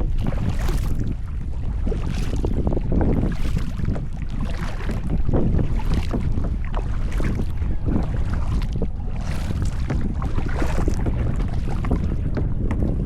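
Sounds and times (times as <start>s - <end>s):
paddle splashing water: 0.0s - 13.0s
wind buffeting microphone: 0.0s - 13.0s.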